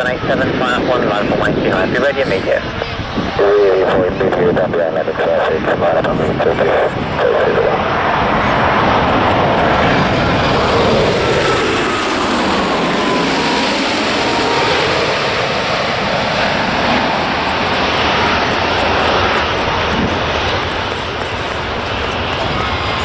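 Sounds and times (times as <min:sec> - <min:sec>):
jet airliner engine rush: 0:00.0 - 0:23.0.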